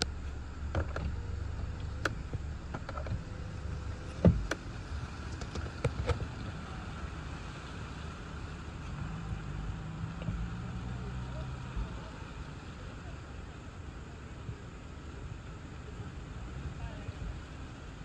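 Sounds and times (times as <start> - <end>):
low hum: 0.0 - 17.9.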